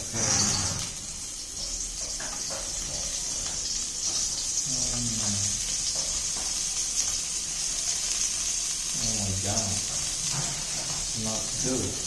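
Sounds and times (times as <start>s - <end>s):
food frying in a pan: 0.0s - 12.0s.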